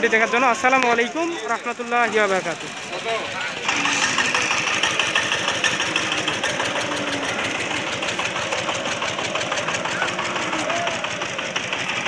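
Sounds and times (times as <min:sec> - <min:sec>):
faint crowd voices: 0:00.0 - 0:11.8
engine idling: 0:00.0 - 0:12.0.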